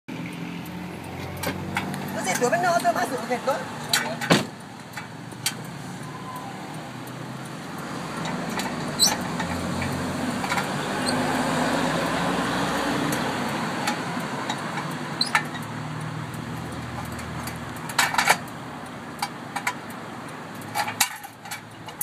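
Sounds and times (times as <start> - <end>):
vehicle passing by: 0.1 - 17.9.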